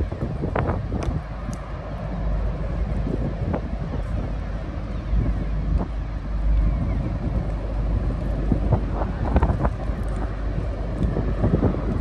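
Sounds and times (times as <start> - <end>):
ship engines rumbling: 0.0 - 12.0
wind buffeting microphone: 0.0 - 12.0.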